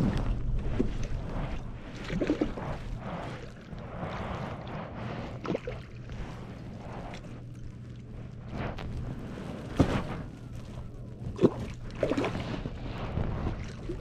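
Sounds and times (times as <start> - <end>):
water splashing against canoe: 0.0 - 7.7, 8.5 - 14.0.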